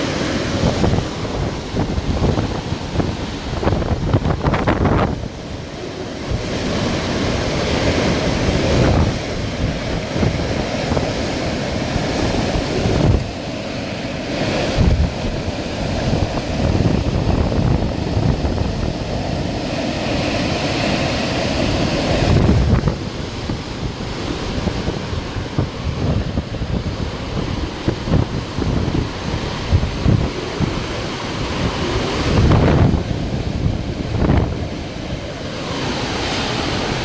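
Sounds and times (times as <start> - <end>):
hurricane wind roaring: 0.0 - 37.0
wind buffeting microphone: 0.0 - 37.0.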